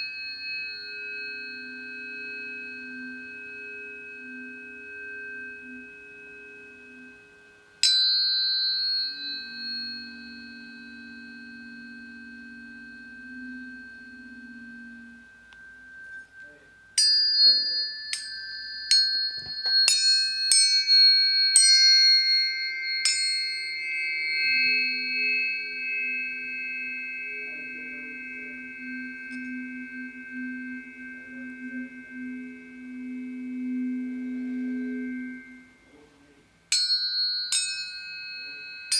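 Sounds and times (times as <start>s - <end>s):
tuning fork struck ping: 0.0s - 38.9s
tuning forks ringing: 0.0s - 38.9s.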